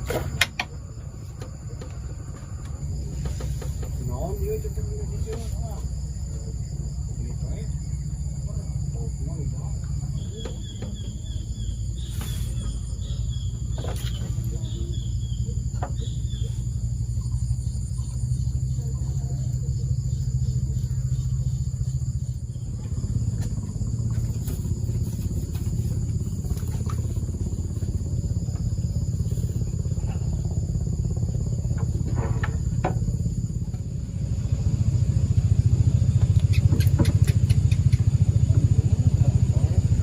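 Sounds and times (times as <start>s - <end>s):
small engine droning: 0.0s - 40.0s.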